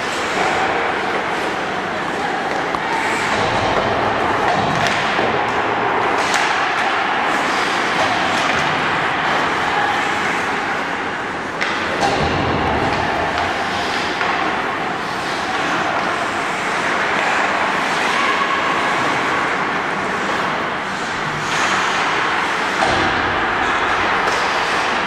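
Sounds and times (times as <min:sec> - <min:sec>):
hockey sticks and puck clicking: 0:00.0 - 0:25.0.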